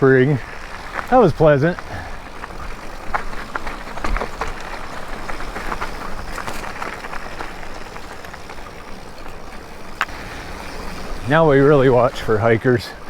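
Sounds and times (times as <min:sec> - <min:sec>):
bike clicks and rattles: 0:00.0 - 0:11.8
bike tyres rolling on dirt: 0:00.0 - 0:13.0.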